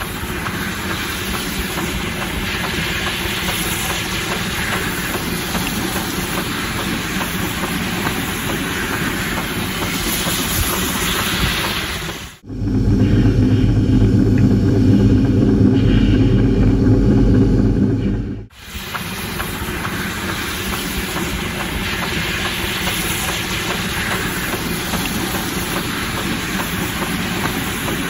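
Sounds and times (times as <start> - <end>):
steam snowplow deep drone: 0.0 - 28.0.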